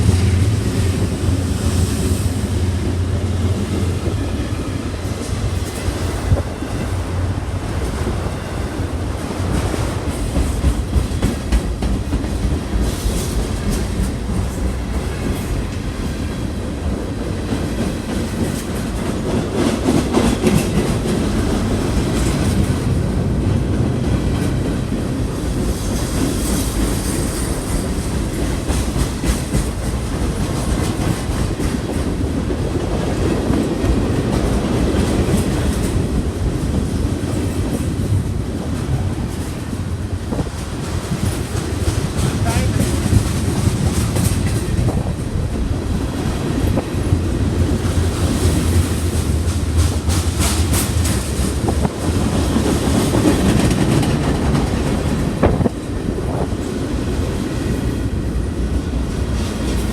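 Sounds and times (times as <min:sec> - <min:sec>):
train cars rumbling: 0:00.0 - 0:59.9.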